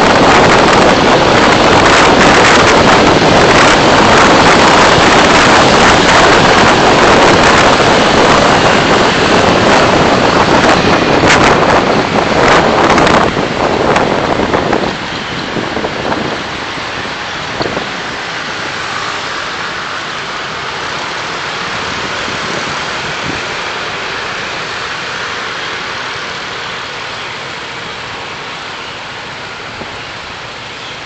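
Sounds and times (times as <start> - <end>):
moving car rushing noise: 0.0 - 31.0.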